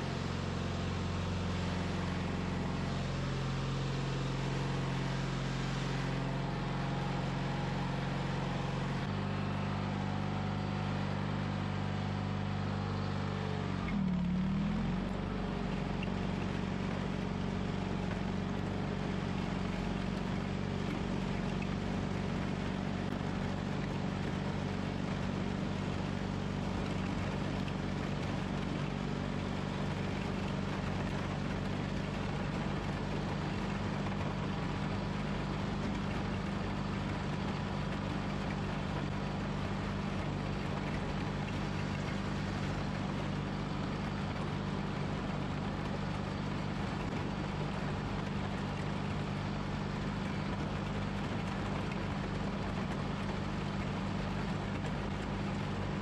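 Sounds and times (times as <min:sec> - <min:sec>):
garden tractor engine running: 0:00.0 - 0:56.0
plow blade pushing snow: 0:00.0 - 0:56.0.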